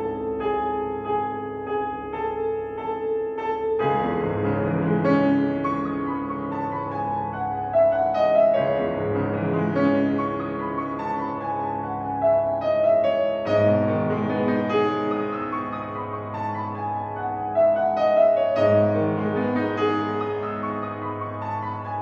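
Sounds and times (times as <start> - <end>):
grand piano playing: 0.0 - 22.0.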